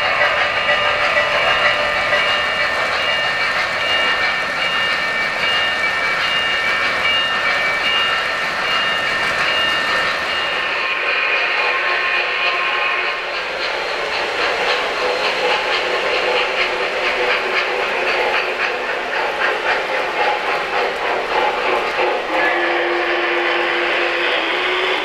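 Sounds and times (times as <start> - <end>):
model train wheels clicking on track: 0.0 - 25.0.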